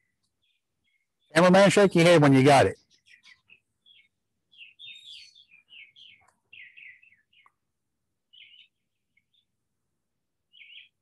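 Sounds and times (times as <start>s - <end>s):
songbird chirps and trills: 0.0s - 11.0s.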